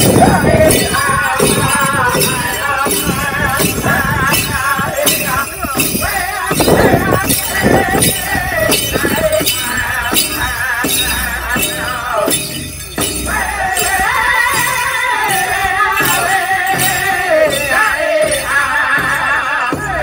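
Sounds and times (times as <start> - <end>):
people singing: 0.0 - 20.0
steady drumbeat: 0.0 - 20.0.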